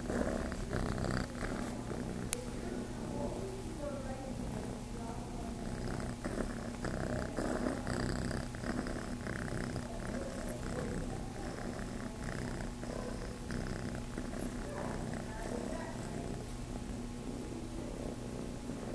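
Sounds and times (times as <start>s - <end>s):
kitten purring: 0.0s - 18.9s.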